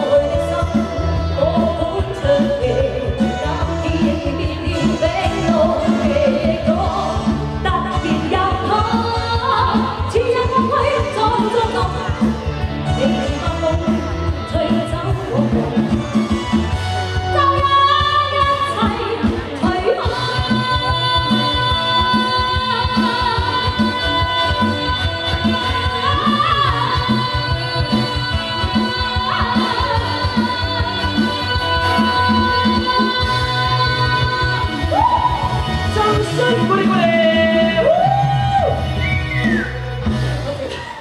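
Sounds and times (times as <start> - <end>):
woman singing into a microphone: 0.0 - 12.3, 12.9 - 15.8, 17.1 - 38.8
amplified pop band with beat: 0.0 - 41.0.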